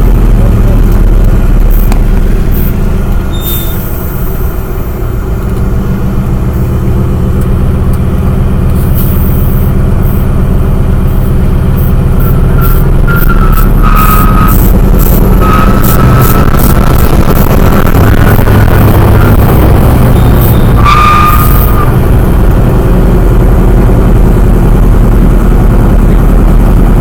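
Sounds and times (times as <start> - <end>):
propeller plane engine running: 0.0 - 27.0.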